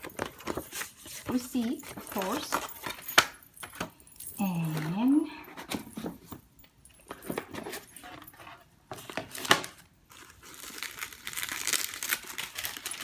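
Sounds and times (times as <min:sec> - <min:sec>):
paper packaging rustling: 0:00.0 - 0:06.4, 0:07.0 - 0:13.0.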